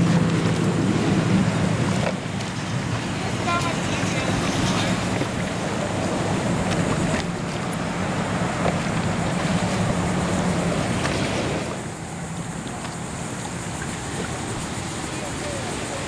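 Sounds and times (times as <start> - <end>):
low engine hum: 0.0 - 16.0
water lapping: 0.0 - 16.0
wind on microphone: 0.0 - 16.0.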